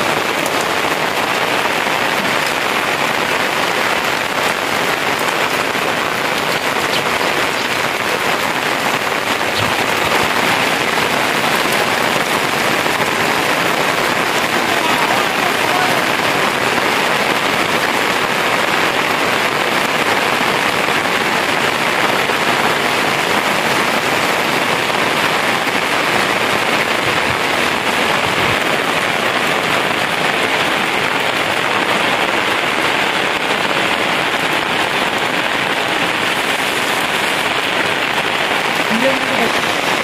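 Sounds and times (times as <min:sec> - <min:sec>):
heavy rain on plastic tarp: 0:00.0 - 0:40.0.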